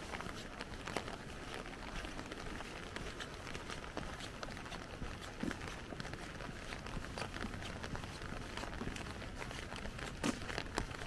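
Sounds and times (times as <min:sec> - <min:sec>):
footsteps: 0:00.0 - 0:11.0
raindrops tapping on umbrella: 0:00.0 - 0:11.0.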